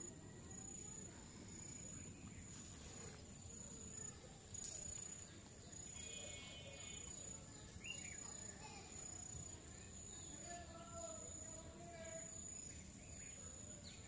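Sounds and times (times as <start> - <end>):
insects buzzing: 0.0 - 14.0
outdoor background noise: 0.0 - 14.0.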